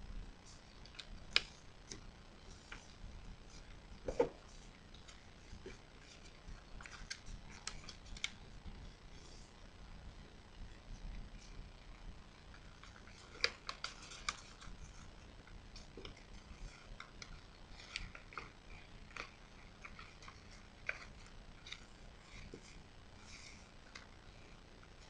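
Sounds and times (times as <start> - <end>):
paper being folded and creased: 0.4 - 9.5, 12.5 - 25.0.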